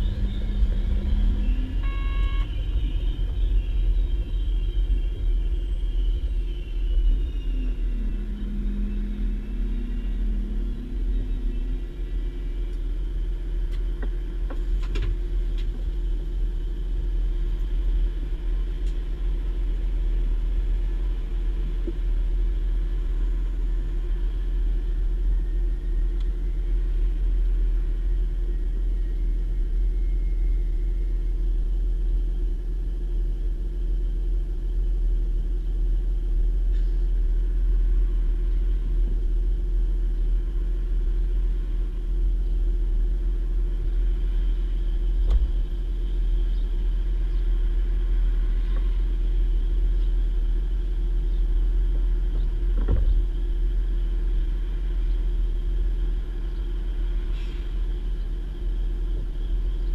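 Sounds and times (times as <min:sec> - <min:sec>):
low hum: 0:00.0 - 0:59.9
railcar engine rumble: 0:00.0 - 0:59.9.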